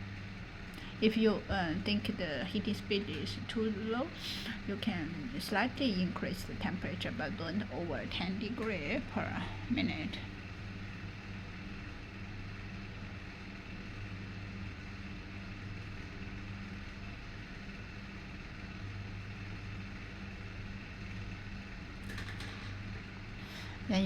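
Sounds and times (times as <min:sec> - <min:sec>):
electrical hum with buzz: 0:00.0 - 0:24.0
fan whirring: 0:00.0 - 0:24.0.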